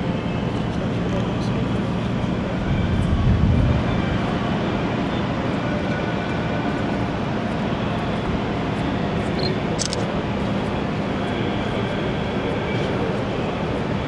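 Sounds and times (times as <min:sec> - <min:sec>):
ship machinery rumble and hum: 0:00.0 - 0:14.0.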